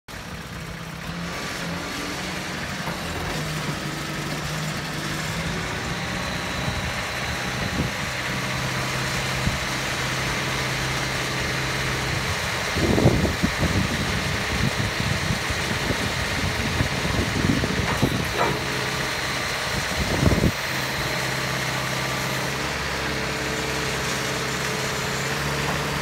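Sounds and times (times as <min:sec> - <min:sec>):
forklift engine running: 0:00.1 - 0:26.0
high steady hydraulic whine: 0:00.2 - 0:26.0.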